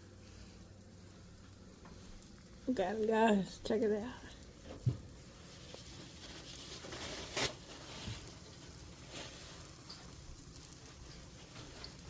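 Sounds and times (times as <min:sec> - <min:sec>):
pancakes sizzling in a pan: 0:00.0 - 0:12.0.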